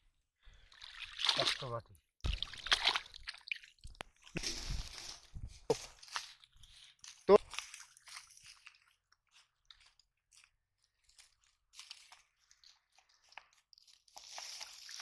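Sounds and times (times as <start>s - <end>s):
hands squelching through mud: 0.6s - 5.3s, 6.0s - 15.0s.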